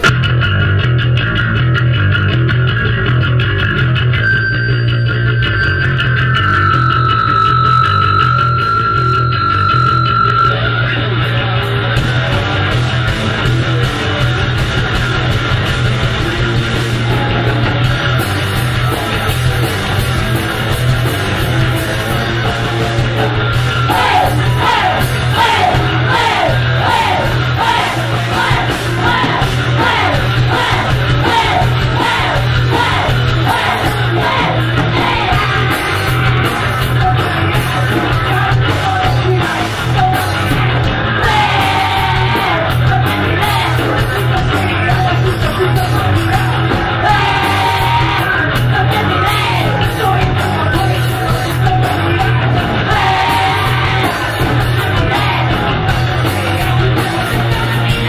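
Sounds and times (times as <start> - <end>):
punk rock band playing live: 0.0 - 58.0.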